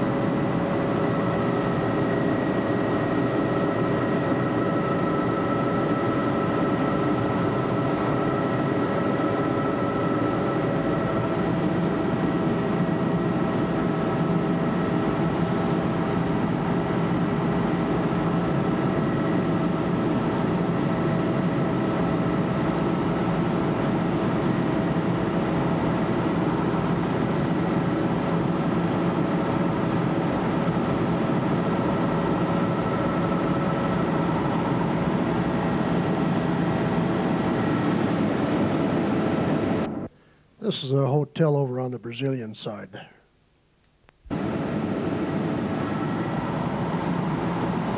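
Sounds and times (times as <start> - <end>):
helicopter engine and rotor drone: 0.0 - 40.1, 44.3 - 47.9
constant whining tones: 0.0 - 40.6, 44.1 - 47.9.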